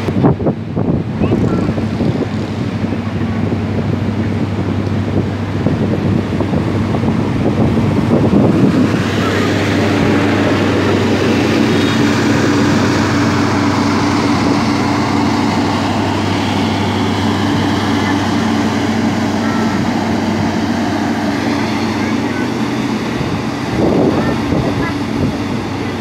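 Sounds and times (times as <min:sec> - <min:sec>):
train coaches rolling on rails: 0:00.0 - 0:26.0
train diesel hum: 0:00.0 - 0:26.0.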